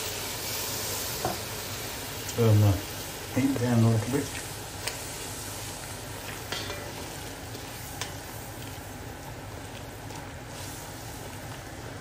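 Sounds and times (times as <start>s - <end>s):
stew simmering with low hiss: 0.0s - 12.0s.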